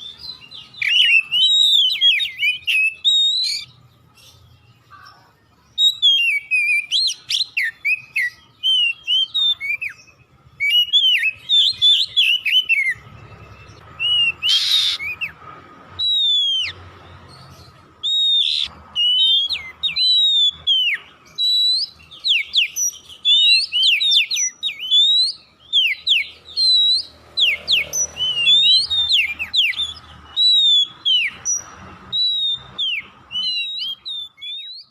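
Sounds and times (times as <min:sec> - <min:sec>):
bird singing whistled notes: 0:00.0 - 0:34.9.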